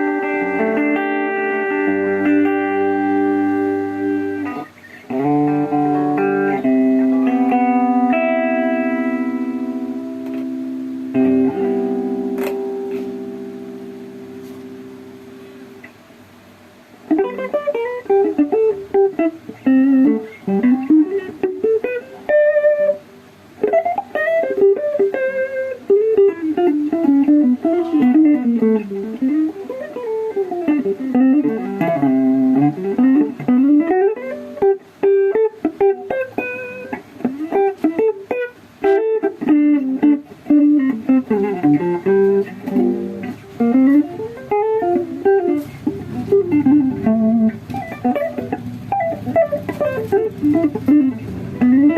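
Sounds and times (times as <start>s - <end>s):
electric guitar playing: 0.0s - 51.9s.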